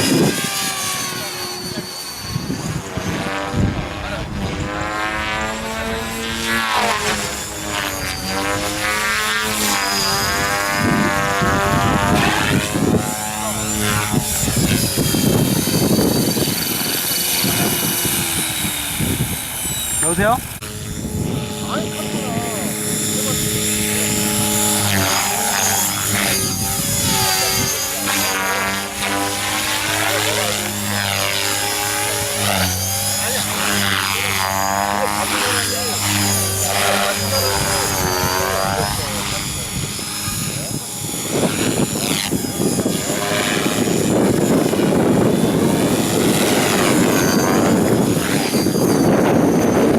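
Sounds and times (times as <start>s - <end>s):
model aircraft motor whine: 0.0s - 49.9s.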